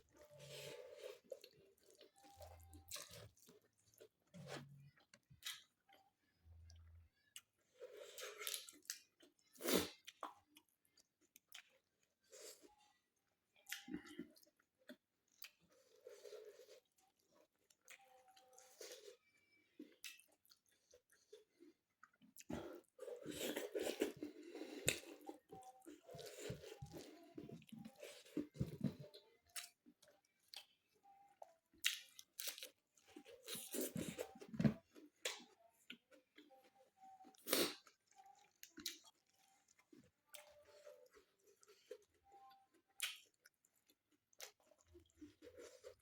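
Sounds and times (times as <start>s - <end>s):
person chewing and crunching food: 0.0s - 46.0s.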